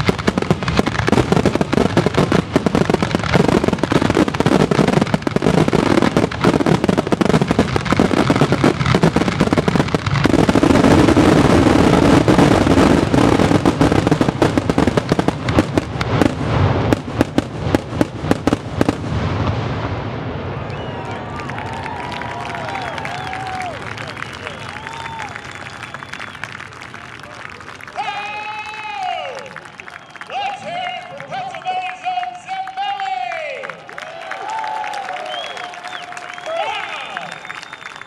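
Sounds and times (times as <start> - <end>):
fireworks shells bursting and crackling: 0.0 - 33.8.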